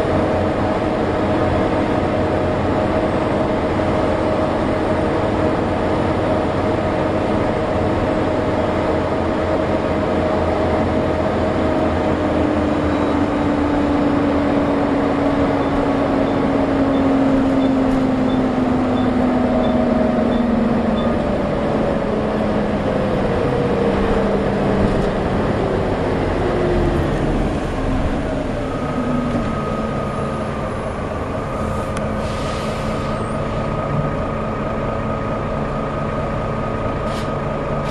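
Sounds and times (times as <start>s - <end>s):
bus engine running: 0.0s - 37.9s.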